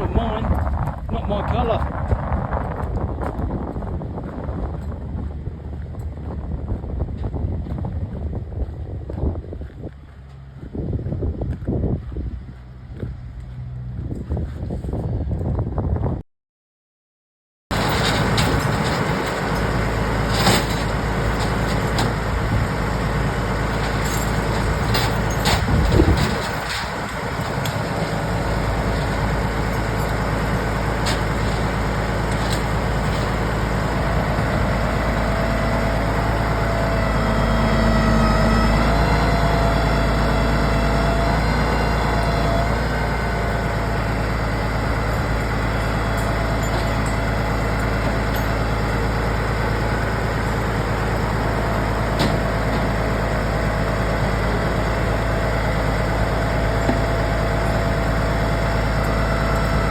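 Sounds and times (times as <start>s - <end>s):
heavy vehicle engine running: 0.0s - 16.2s, 17.7s - 59.9s.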